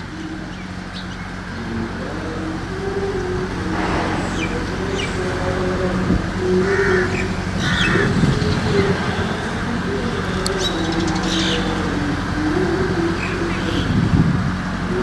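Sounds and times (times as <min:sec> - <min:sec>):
wavering drone: 0:00.0 - 0:15.0.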